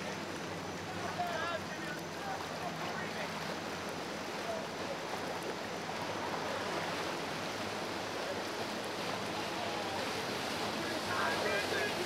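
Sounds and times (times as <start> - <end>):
choppy water churning: 0.0 - 12.0.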